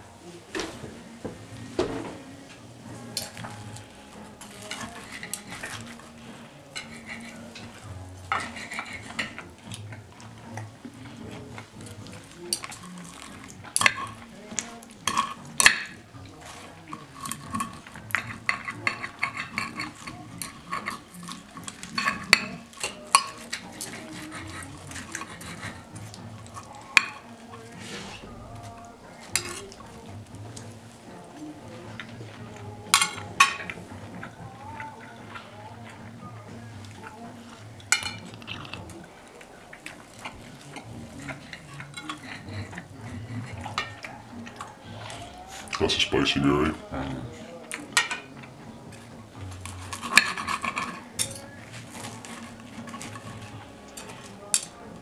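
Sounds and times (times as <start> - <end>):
knife and fork scraping a plate: 3.1 - 28.4, 29.1 - 31.2, 31.8 - 36.2, 36.8 - 39.0, 39.8 - 45.8, 47.7 - 54.8.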